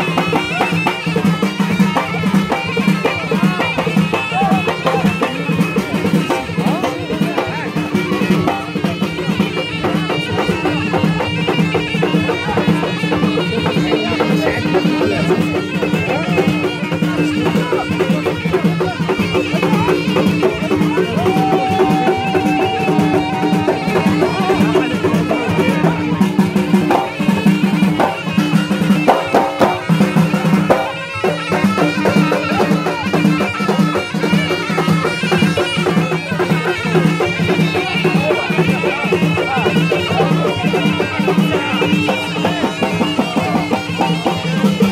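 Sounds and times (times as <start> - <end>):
quick even drumbeat: 0.0 - 44.9
reedy wind instrument melody: 0.0 - 44.9.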